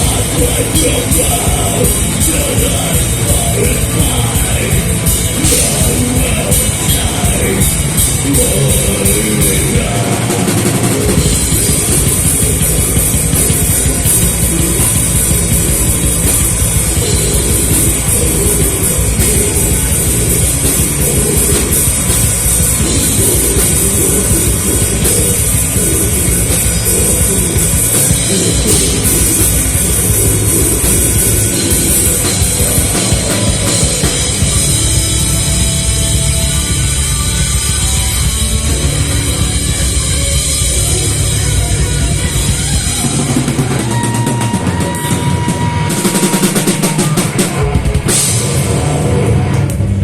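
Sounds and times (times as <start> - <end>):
drum kit and cymbals: 0.0 - 50.0
live rock band playing: 0.0 - 50.0.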